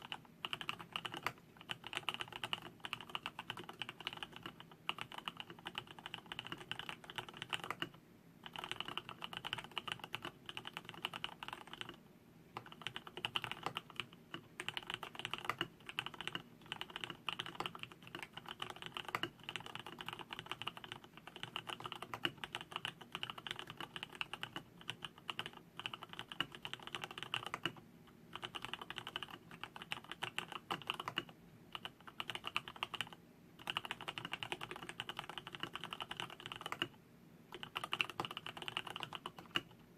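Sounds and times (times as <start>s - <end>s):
mechanical keyboard typing: 0.0s - 12.0s, 12.6s - 39.8s.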